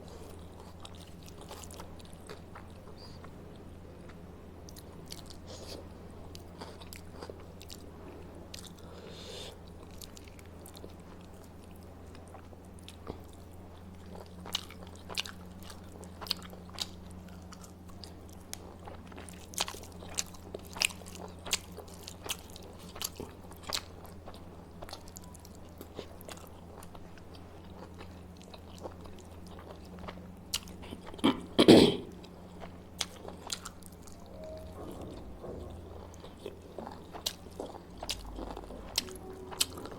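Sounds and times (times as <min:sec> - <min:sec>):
low steady hum: 0:00.0 - 0:39.9
chewing and biting food: 0:00.1 - 0:03.3, 0:04.7 - 0:07.9, 0:09.5 - 0:31.5, 0:32.2 - 0:34.3, 0:35.1 - 0:39.9.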